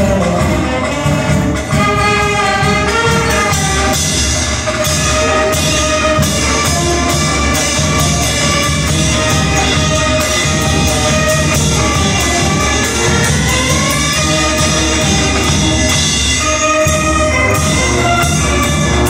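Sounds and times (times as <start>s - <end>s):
wind band playing: 0.0s - 19.0s.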